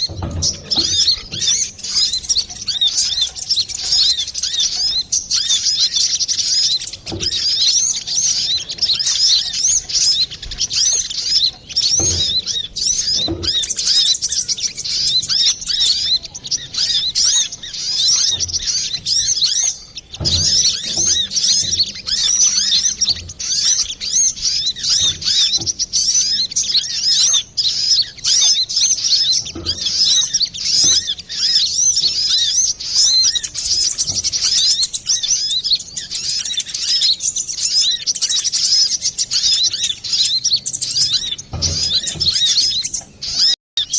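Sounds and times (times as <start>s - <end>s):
sunbird chattering: 0.0s - 43.9s.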